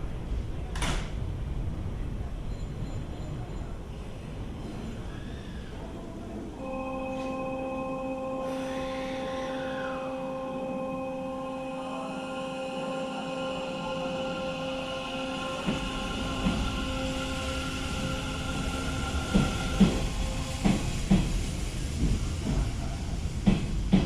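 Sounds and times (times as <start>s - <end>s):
train running noise: 0.0s - 24.0s
electric train whine: 4.7s - 24.0s.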